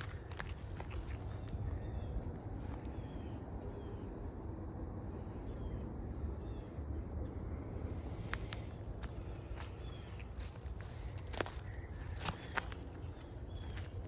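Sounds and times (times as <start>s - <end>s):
insects droning: 0.0s - 14.0s
wind rumble on microphone: 0.0s - 14.0s.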